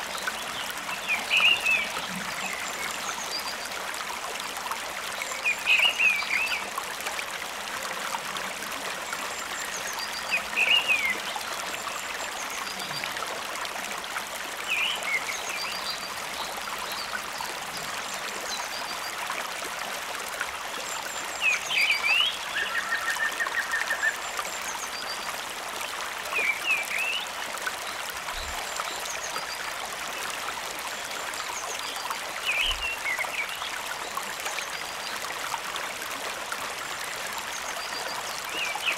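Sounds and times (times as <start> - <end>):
stream running water: 0.0 - 38.9.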